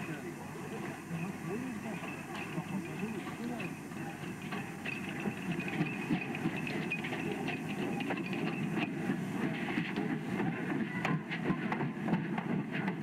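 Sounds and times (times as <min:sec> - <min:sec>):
steam hissing: 0:00.0 - 0:13.0
train wheels clattering on rails: 0:00.0 - 0:13.0.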